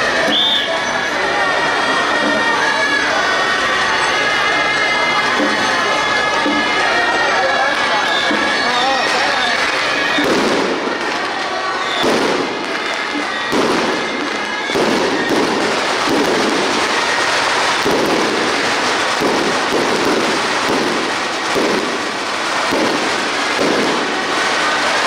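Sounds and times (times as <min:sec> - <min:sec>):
firecrackers crackling: 0:00.0 - 0:25.0.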